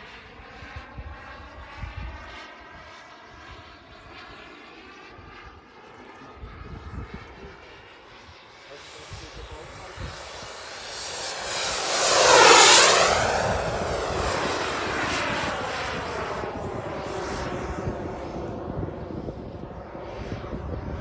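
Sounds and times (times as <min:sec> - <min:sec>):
model jet turbine passing overhead: 0:00.0 - 0:21.0.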